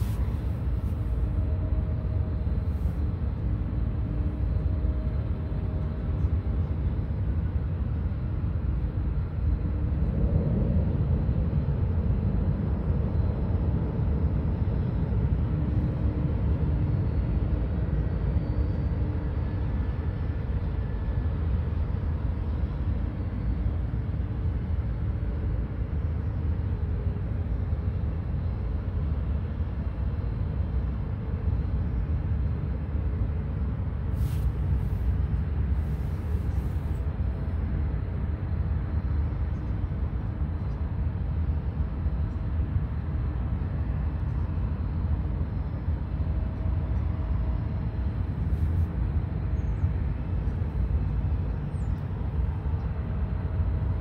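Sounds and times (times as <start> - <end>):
distant aircraft engines rumbling: 0.0 - 54.0
faint engine whine: 0.0 - 54.0.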